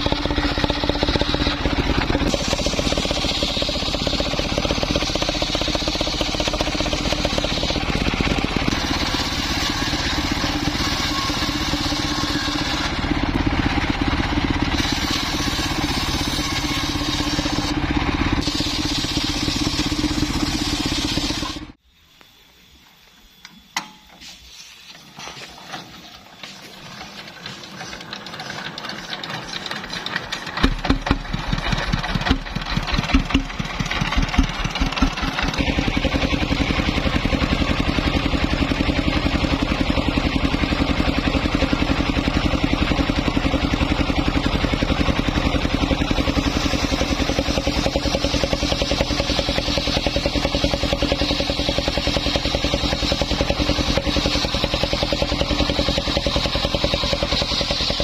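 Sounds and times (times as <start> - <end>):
small engine starting and running: 0.0 - 21.8, 24.9 - 58.0.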